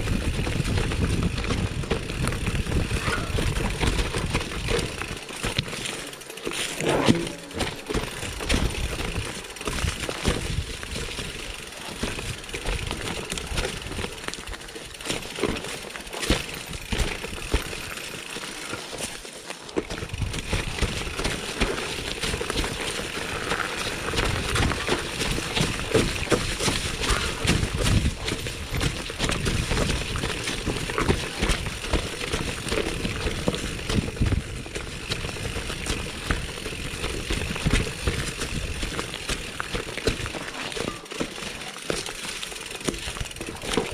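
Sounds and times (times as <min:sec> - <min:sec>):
bike rattling over bumps: 0:00.0 - 0:43.9
bike tyres on dirt and stones: 0:00.0 - 0:43.9.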